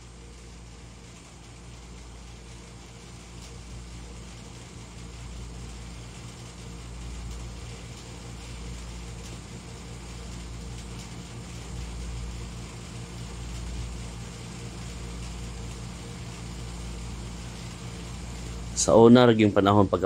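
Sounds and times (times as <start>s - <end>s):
machine hum with deep rumble: 0.0s - 20.0s.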